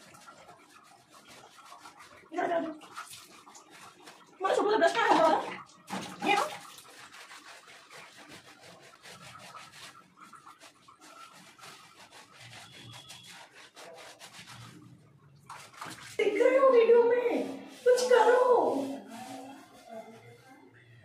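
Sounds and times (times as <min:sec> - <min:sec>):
hands scrubbing wet dog fur: 0:00.0 - 0:21.0.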